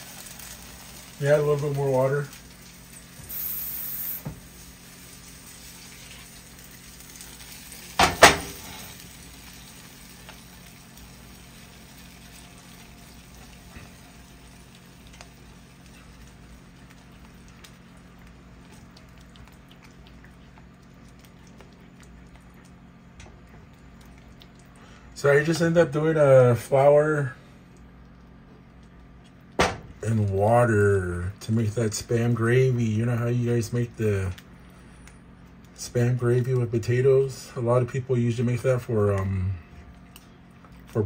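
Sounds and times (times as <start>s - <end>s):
gravy bubbling in a frying pan: 0.0s - 41.0s.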